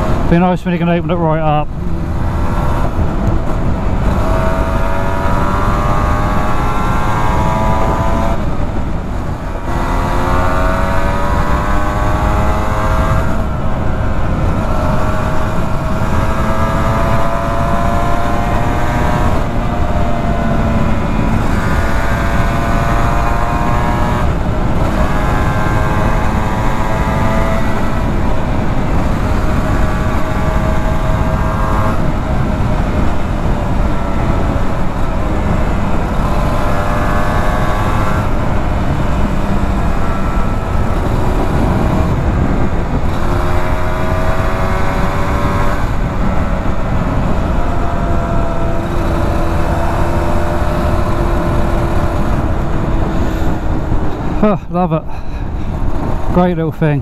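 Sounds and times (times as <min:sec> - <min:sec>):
two-stroke motorcycle engine revving: 0:00.0 - 0:55.0
wind rush: 0:00.0 - 0:57.0.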